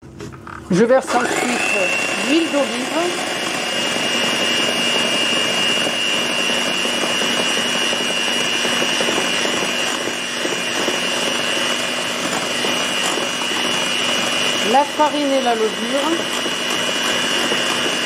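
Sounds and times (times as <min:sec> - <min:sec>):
electric hand mixer whining: 0:00.5 - 0:18.0.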